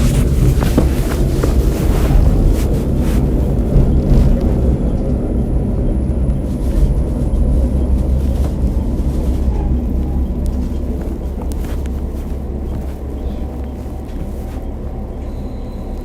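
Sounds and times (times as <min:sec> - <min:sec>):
diesel railcar rumbling: 0:00.0 - 0:16.0.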